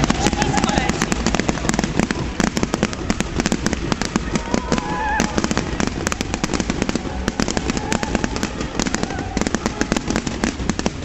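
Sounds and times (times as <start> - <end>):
fireworks crackling bangs and pops: 0.0 - 11.0.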